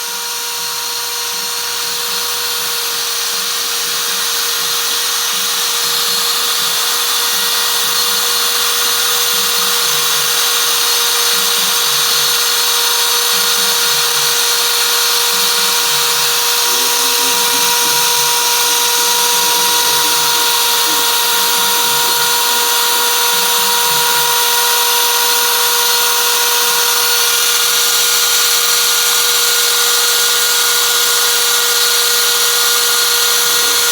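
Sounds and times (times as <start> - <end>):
router spindle whining and hissing: 0.0 - 33.9.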